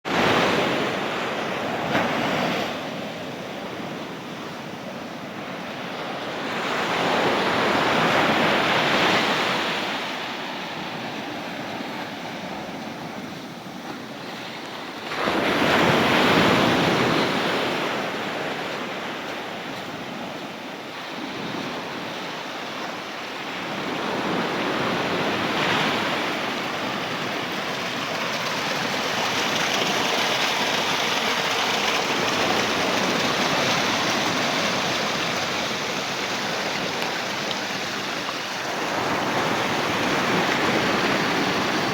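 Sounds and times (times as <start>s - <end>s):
surf breaking on beach: 0.1s - 41.9s.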